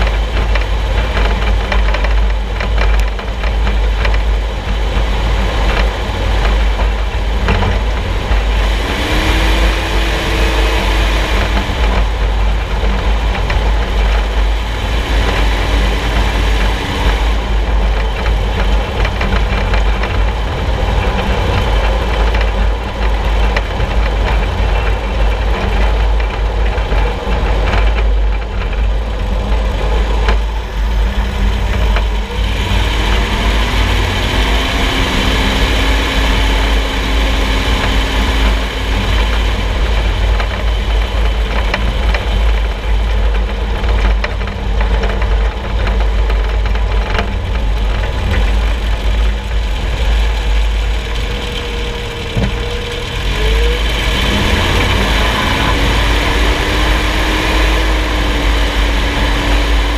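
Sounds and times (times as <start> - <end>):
suspension knocks: 0.0 - 59.9
vehicle driving rumble: 0.0 - 59.9.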